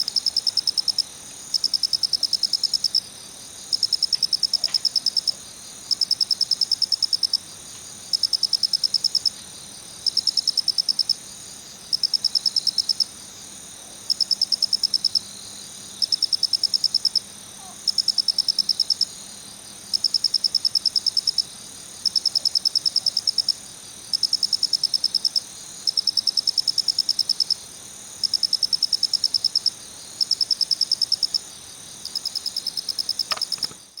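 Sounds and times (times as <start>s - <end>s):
cricket chirping: 0.0s - 34.0s.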